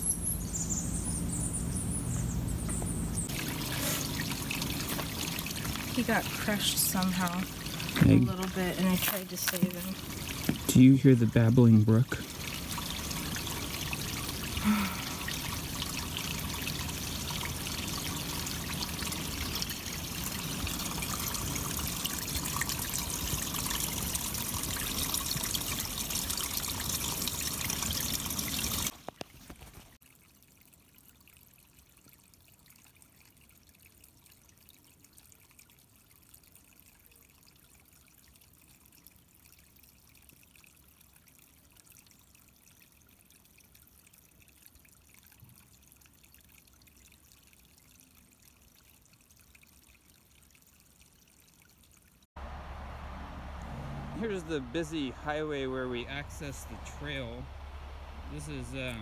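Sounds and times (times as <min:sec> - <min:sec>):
brook babbling: 0:02.1 - 0:59.0.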